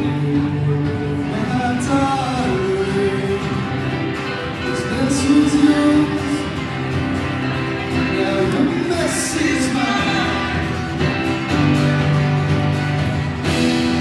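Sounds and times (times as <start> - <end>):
acoustic guitars strummed: 0.0 - 14.0
keyboard playing: 0.0 - 14.0.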